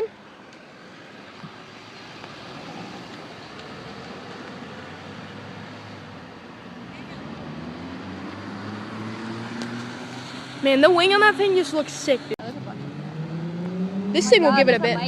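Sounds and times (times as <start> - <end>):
car approaching: 0.0 - 15.0
passing traffic: 0.0 - 15.0.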